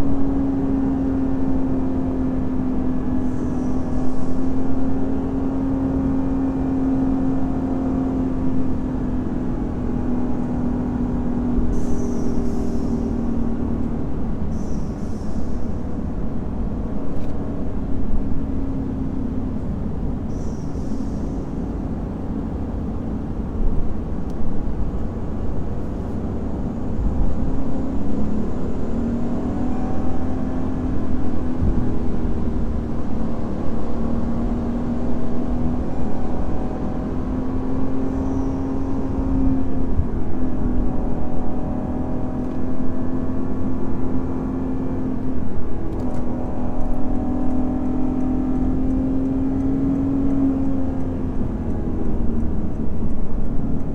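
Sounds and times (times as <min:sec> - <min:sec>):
car engine droning: 0:00.0 - 0:53.9.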